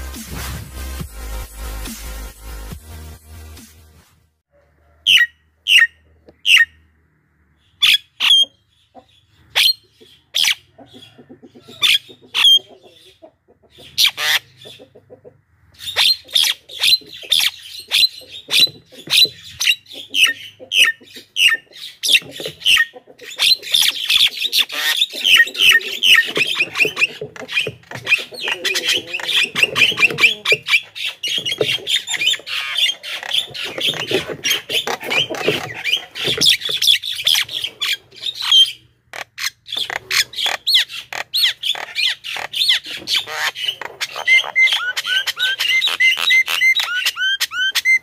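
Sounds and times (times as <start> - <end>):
bird harsh calls and chattering: 5.1 - 6.9, 7.5 - 48.0.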